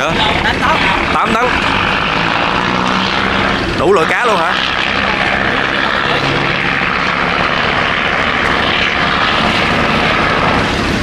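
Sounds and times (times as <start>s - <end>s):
large engine droning: 0.0s - 11.0s.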